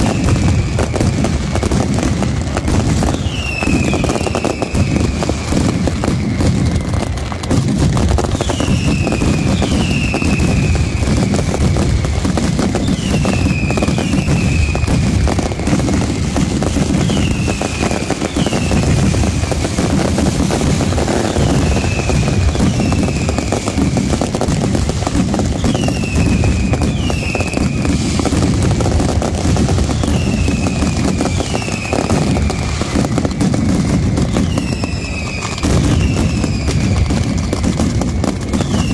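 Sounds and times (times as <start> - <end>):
falling firework whistles: 0.0 - 38.9
firecracker bangs and crackling: 0.0 - 38.9.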